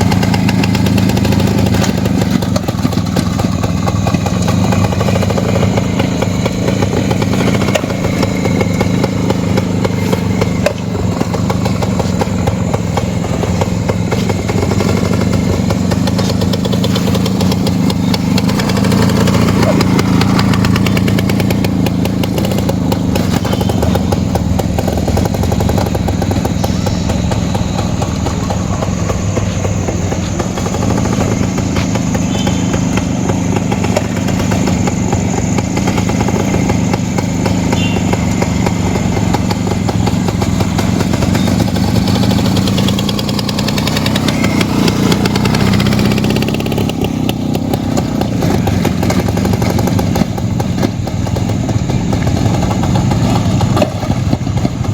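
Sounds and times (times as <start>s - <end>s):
two-stroke engine running: 0.0s - 54.9s.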